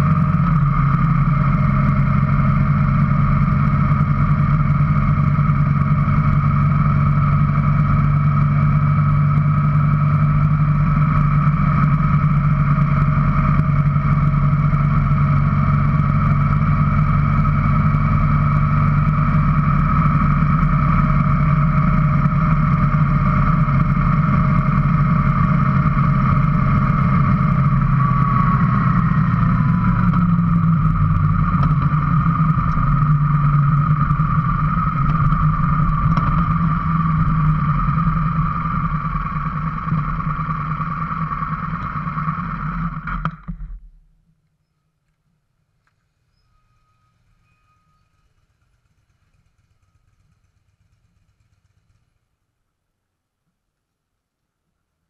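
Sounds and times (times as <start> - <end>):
motorcycle engine running: 0.0 - 44.0, 46.3 - 52.6.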